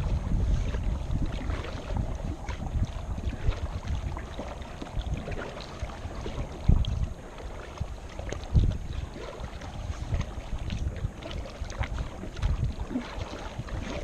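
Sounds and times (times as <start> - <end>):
water around kayak: 0.0 - 14.0
wind buffeting microphone: 0.0 - 14.0.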